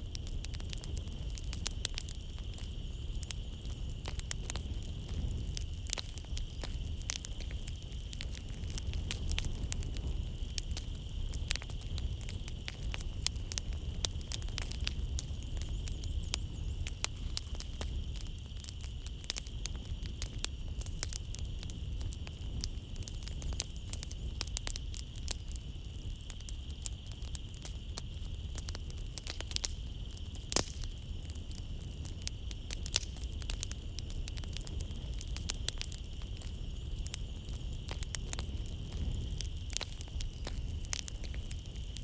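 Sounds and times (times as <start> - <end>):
night insects chirring: 0.0 - 42.0
wood fire crackling: 0.0 - 42.0.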